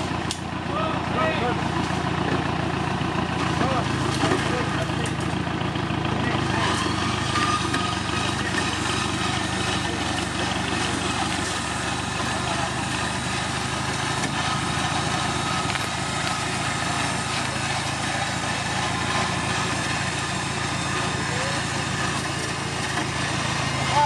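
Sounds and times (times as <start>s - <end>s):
vehicle engine running steadily: 0.0s - 24.0s.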